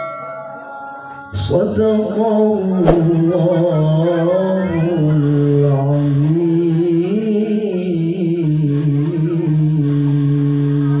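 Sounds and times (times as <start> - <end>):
man chanting into a microphone: 1.4 - 11.0.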